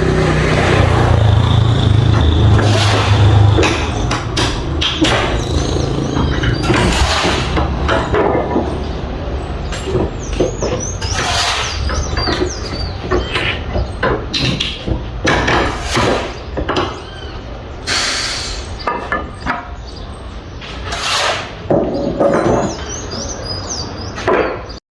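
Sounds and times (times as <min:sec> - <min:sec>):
tools knocking and scraping: 0:01.1 - 0:17.1, 0:18.8 - 0:19.8, 0:20.6 - 0:23.2, 0:24.2 - 0:24.8.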